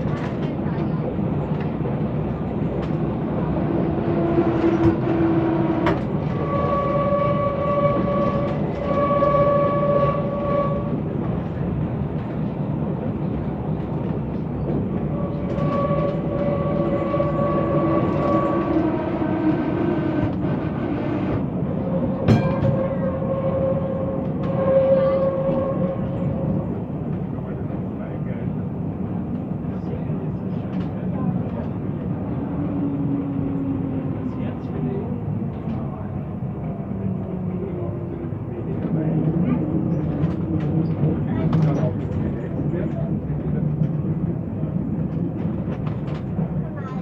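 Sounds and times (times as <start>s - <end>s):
tram wheels and motor rumbling: 0.0s - 47.0s.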